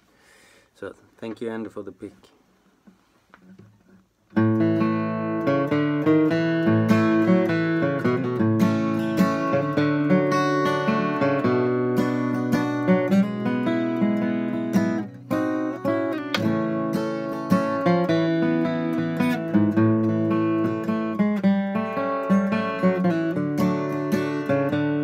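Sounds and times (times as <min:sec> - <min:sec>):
acoustic guitar flatpicking: 0:02.8 - 0:25.0.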